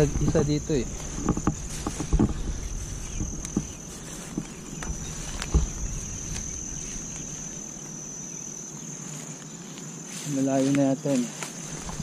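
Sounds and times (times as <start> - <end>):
crickets trilling: 0.0 - 12.0
footsteps through grass: 0.0 - 12.0.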